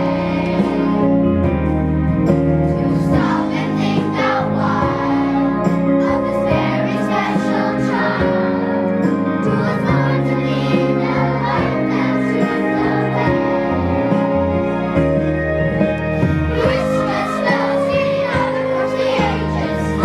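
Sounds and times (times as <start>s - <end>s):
children's choir singing: 0.0s - 1.3s, 2.6s - 14.7s, 16.3s - 20.0s
instrumental accompaniment: 0.0s - 20.0s.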